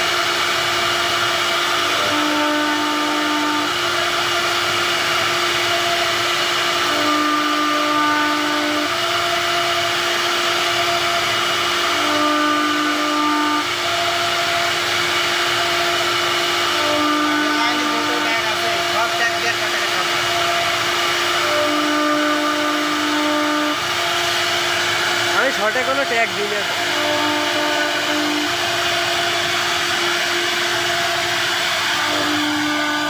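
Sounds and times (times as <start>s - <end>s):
router spindle whining: 0.0s - 33.0s.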